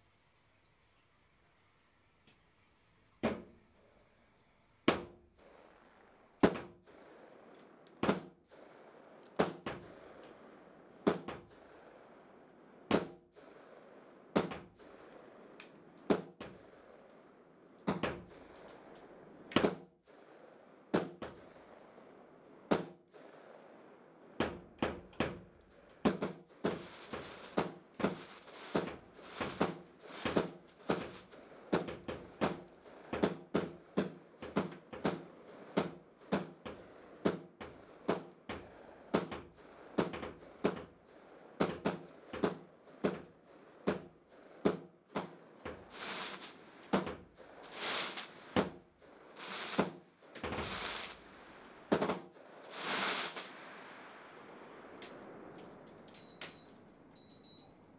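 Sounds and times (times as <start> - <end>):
fireworks crackling: 0.0 - 57.9
fireworks bangs with echo: 3.1 - 57.9.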